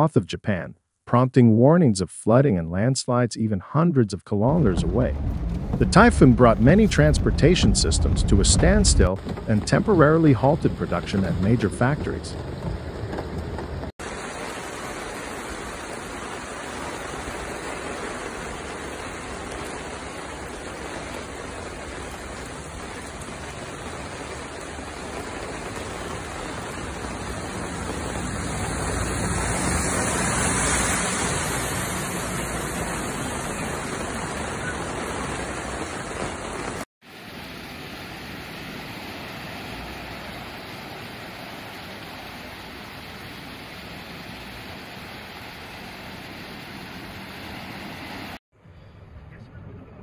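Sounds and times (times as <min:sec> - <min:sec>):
rushing floodwater: 0:04.5 - 0:13.2, 0:13.8 - 0:48.4
heavy rain: 0:04.5 - 0:48.4.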